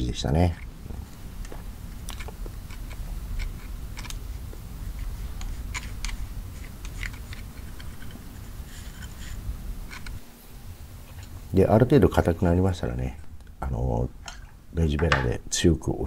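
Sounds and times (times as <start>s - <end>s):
low steady rumble: 0.0s - 15.6s.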